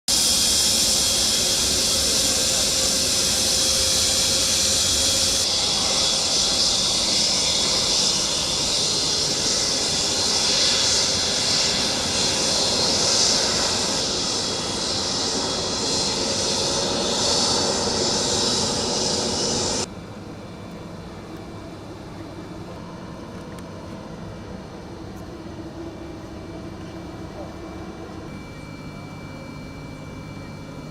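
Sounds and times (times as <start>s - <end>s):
aircraft engines hissing and whining: 0.1s - 30.9s.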